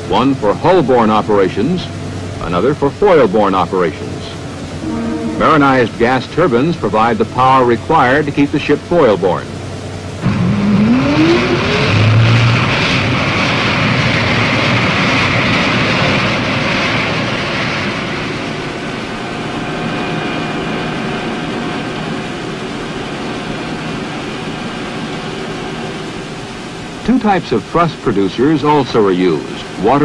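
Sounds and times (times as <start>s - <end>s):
gas turbine running: 0.0s - 30.0s
multi-tone turbine whine: 0.0s - 30.0s
rush of water and wind: 0.0s - 30.0s.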